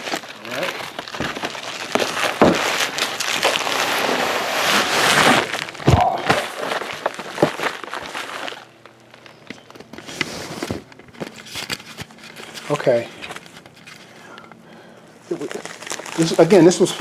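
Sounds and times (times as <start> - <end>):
packaging rustling and crinkling: 0.0 - 14.4, 15.2 - 17.0.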